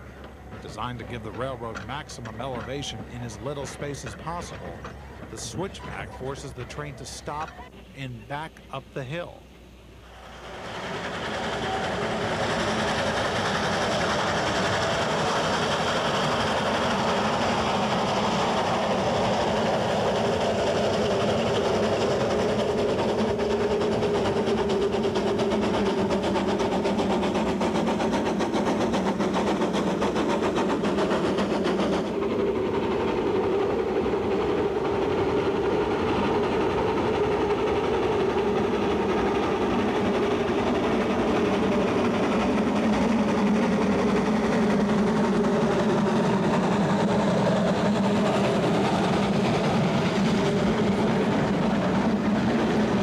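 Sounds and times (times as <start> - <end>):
steam locomotive working uphill: 0.0 - 53.0.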